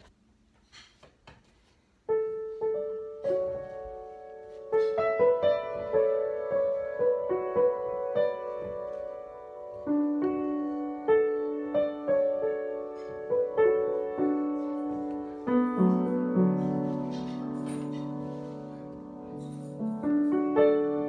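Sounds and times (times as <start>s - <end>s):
upright piano melody: 2.0s - 21.0s.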